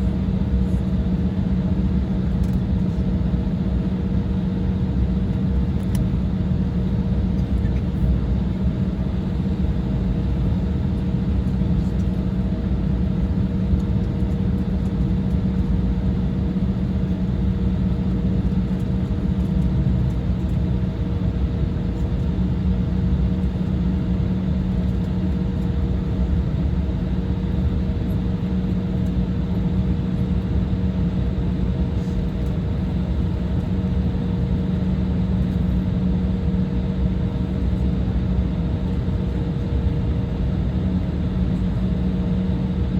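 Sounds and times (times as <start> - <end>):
jet engine cabin drone: 0.0 - 42.9.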